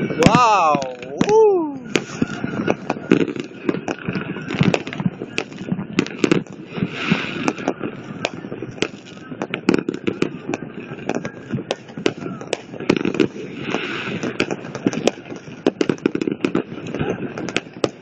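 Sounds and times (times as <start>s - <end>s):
firework hiss: 0.0s - 18.0s
fireworks bangs and pops: 0.0s - 18.0s.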